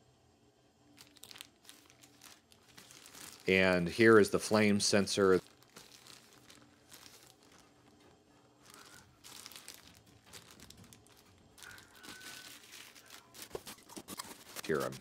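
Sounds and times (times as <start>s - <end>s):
plastic bag crinkling: 0.9s - 15.0s.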